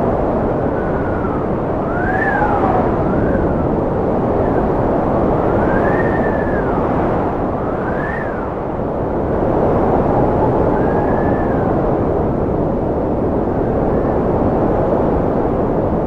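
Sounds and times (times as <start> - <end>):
strong wind blowing: 0.0 - 16.0
wind whistle: 0.0 - 16.0.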